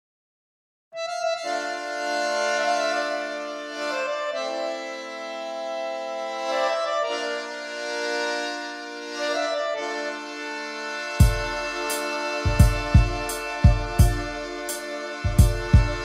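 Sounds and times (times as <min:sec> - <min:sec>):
slow held chords music: 0:01.0 - 0:16.0.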